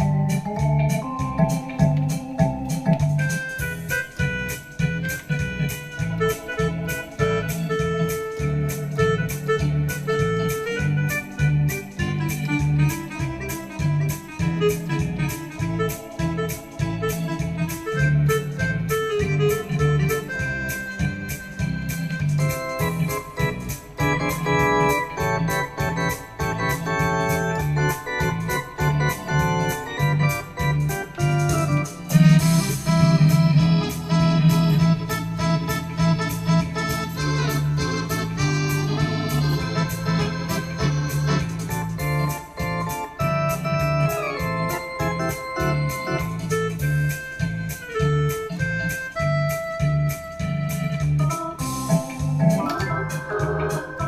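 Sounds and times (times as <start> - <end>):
keyboard organ chords: 0.0 - 54.0
pulsing bass line: 0.0 - 54.0.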